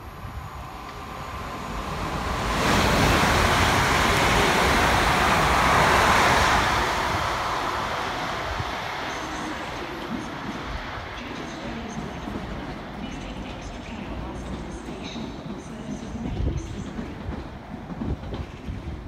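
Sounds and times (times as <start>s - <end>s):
electric train passing at speed: 0.0s - 19.0s.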